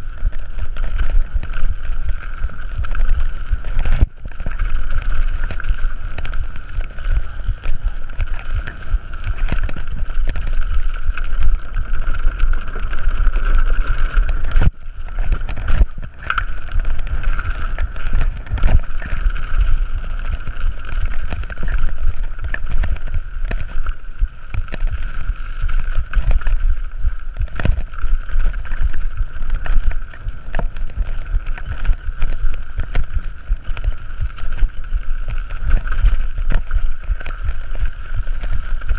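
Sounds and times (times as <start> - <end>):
bike knocking over roots and rocks: 0.0 - 38.9
wind buffeting microphone: 0.0 - 38.9.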